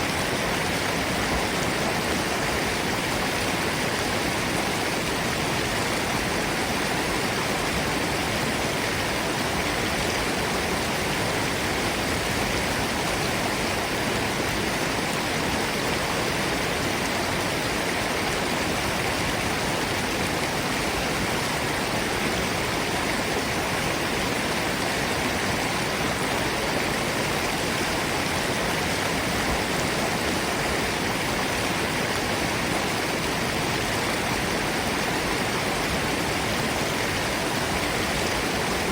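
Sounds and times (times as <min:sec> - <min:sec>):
stream and waterfall rushing: 0:00.0 - 0:38.9.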